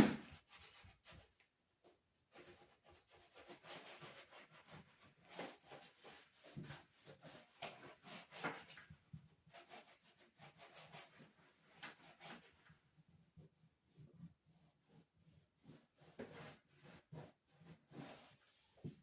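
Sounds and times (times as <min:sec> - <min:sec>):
rubbing and scraping: 0:00.0 - 0:01.4, 0:02.3 - 0:19.0.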